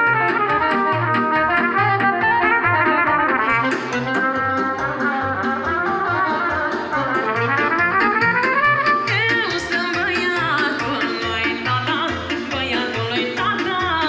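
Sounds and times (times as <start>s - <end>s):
trumpet melody: 0.0s - 11.5s
electronic keyboard with bass beat: 0.0s - 14.0s.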